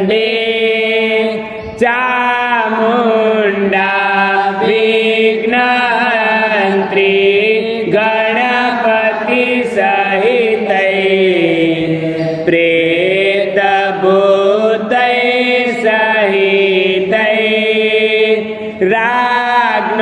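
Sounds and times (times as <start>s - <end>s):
person chanting melodically: 0.0s - 20.0s.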